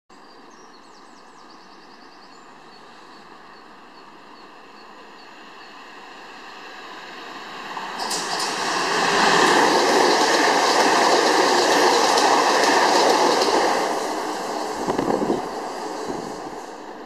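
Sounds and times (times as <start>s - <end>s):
electric train approaching: 2.4s - 17.0s.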